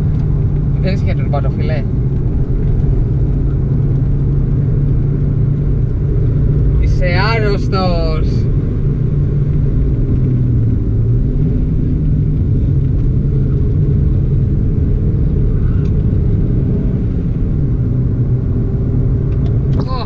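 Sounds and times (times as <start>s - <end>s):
car engine running: 0.0s - 20.0s
road rumble: 0.0s - 20.0s.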